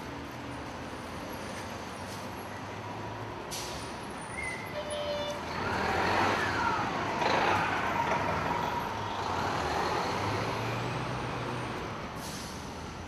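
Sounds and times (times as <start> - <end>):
bus passing: 0.0 - 13.0.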